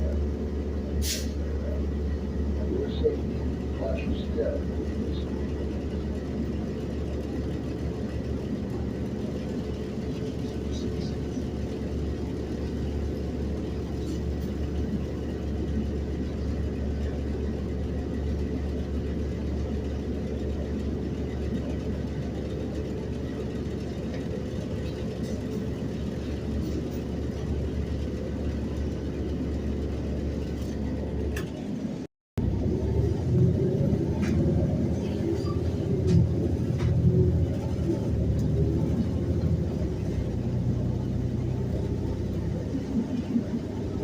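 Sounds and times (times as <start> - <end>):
bus engine hum: 0.0 - 44.0
road noise: 0.0 - 44.0.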